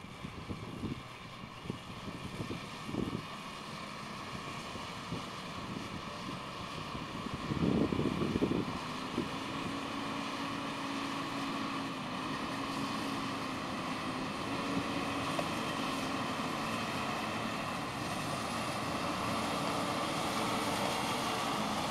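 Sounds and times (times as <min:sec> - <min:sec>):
truck diesel engine driving: 0:00.0 - 0:21.9.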